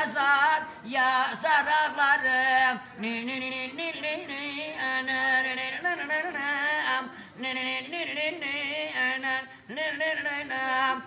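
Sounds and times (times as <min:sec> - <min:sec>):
old man singing unaccompanied: 0:00.0 - 0:11.0.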